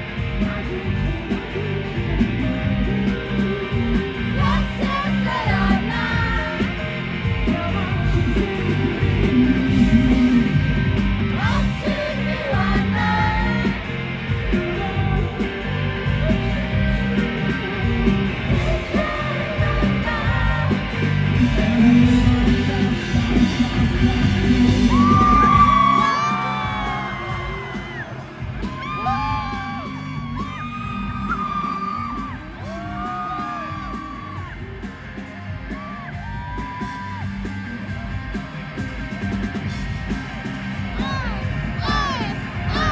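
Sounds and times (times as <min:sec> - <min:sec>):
person singing lead vocal: 0:00.0 - 0:34.8, 0:40.9 - 0:42.9
rock band playing live: 0:00.0 - 0:42.9.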